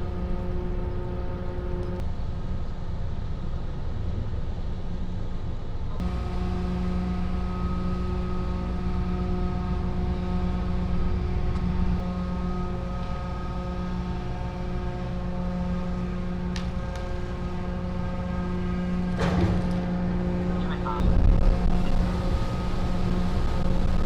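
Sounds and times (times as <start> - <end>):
diesel engine idling: 0.0 - 2.0, 6.0 - 24.0.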